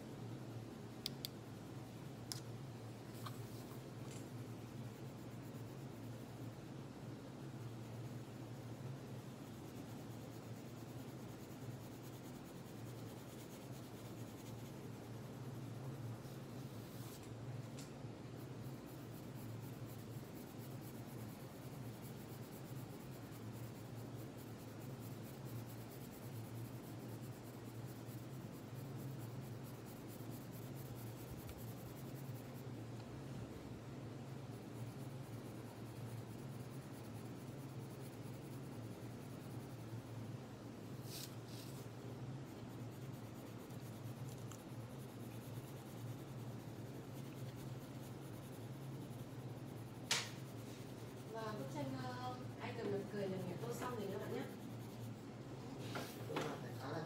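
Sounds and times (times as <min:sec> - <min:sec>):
steady low hum: 0:00.0 - 0:57.0
pencil scratching on paper: 0:03.1 - 0:06.6, 0:07.4 - 0:17.4, 0:18.2 - 0:32.8, 0:34.2 - 0:57.0.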